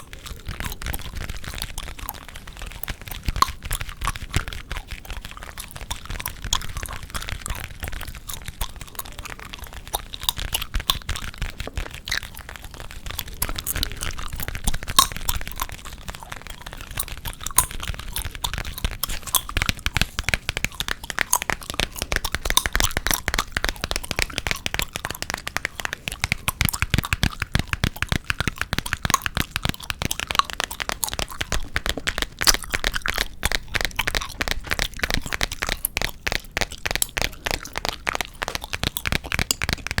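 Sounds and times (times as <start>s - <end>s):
gum chewing: 0.0s - 40.0s
tapping: 0.0s - 40.0s.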